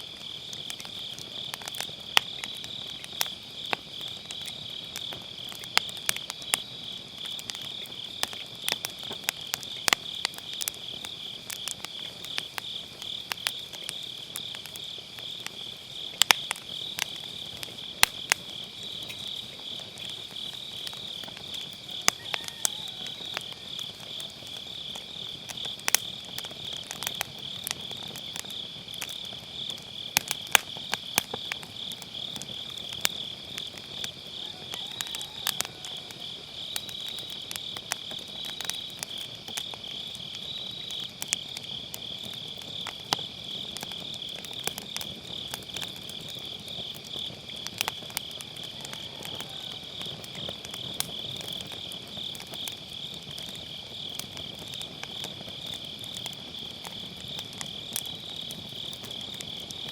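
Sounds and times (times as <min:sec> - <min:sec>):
burning firewood crackling: 0:00.0 - 0:59.9
crickets chirring: 0:00.0 - 0:59.9.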